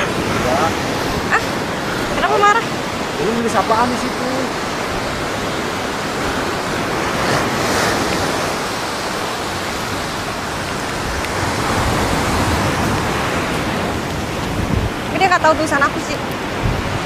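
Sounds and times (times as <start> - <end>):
surf washing onto a beach: 0.0 - 17.0
wind rumbling on microphone: 0.0 - 17.0.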